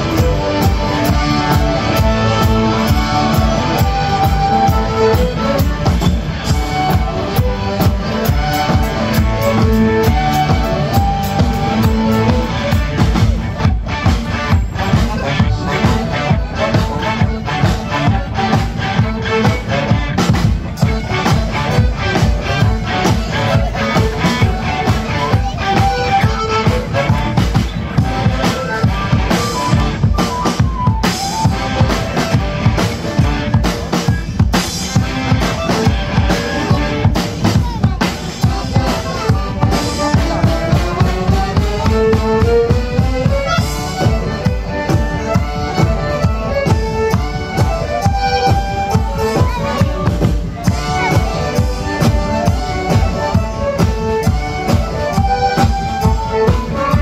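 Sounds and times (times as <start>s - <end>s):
bass drum and snare beat: 0.0s - 57.0s
fiddle and accordion melody: 0.0s - 57.0s.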